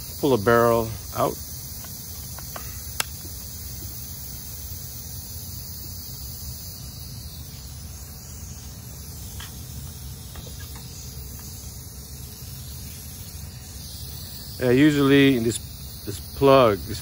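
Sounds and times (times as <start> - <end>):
compressed air hissing: 0.0 - 17.0.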